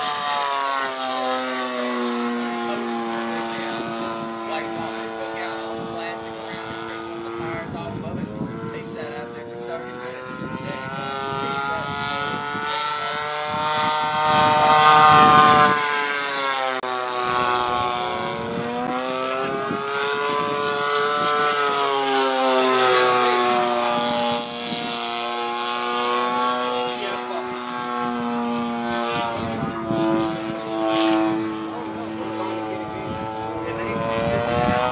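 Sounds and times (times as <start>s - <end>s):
model plane engine in flight: 0.0s - 34.9s.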